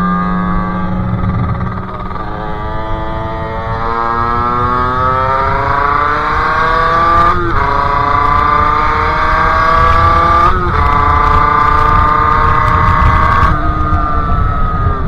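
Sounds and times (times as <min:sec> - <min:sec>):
two-stroke engine pulling hard: 0:00.0 - 0:15.0
wind noise rumbling: 0:00.0 - 0:15.0.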